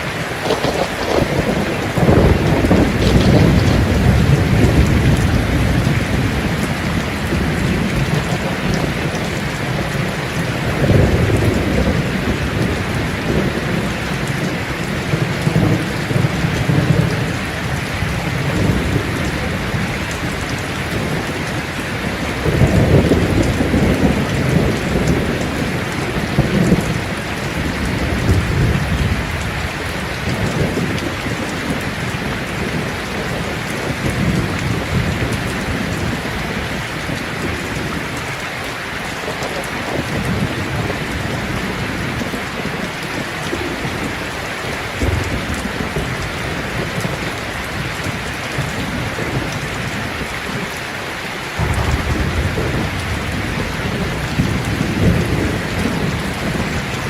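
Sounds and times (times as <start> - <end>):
thunder rumbling: 0.0 - 42.8, 44.9 - 50.8, 51.6 - 57.0
heavy rain: 0.0 - 57.0.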